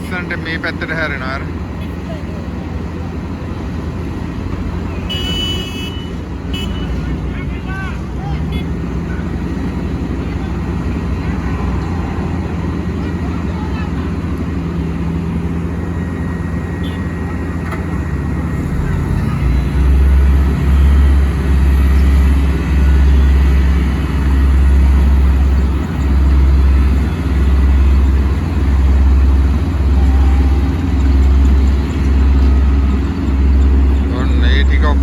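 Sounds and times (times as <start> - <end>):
heavy paving machinery running: 0.0 - 35.0.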